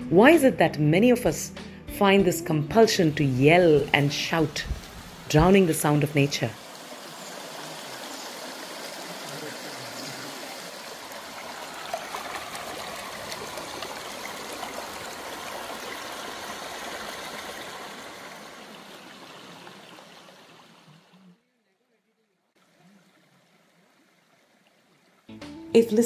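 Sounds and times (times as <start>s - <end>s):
stream flowing water: 3.0s - 21.4s, 22.6s - 25.3s.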